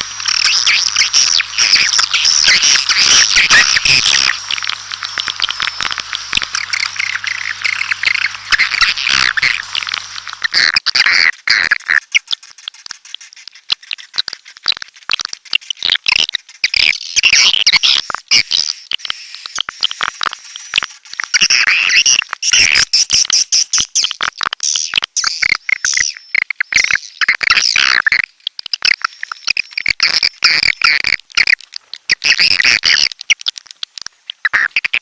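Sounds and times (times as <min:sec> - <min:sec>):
swiftlets twittering and clicking: 0:00.0 - 0:35.0.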